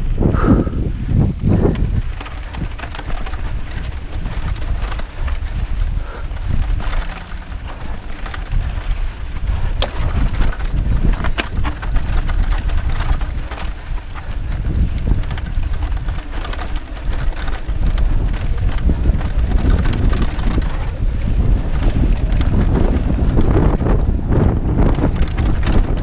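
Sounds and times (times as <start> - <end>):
bike rattling over bumps: 0.0 - 26.0
wind buffeting microphone: 0.0 - 26.0
tyres rolling over loose dirt: 0.2 - 26.0.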